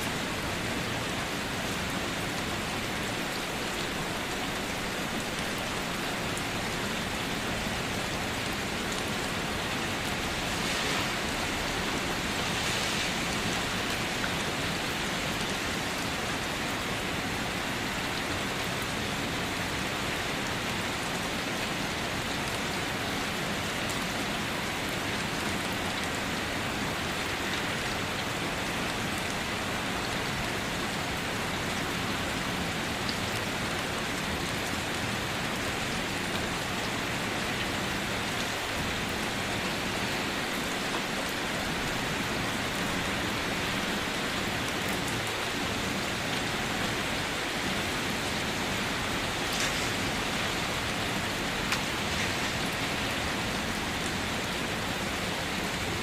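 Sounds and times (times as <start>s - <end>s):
rain pattering on a car roof: 0.0s - 56.0s.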